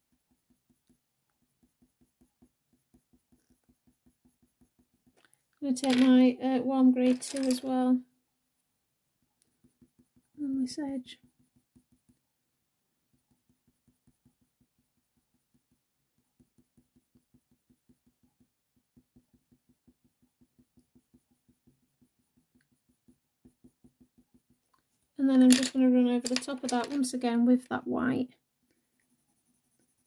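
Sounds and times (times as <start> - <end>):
pencil scratching on paper: 0.0 - 7.9, 8.5 - 12.4, 13.0 - 27.6, 28.7 - 30.0.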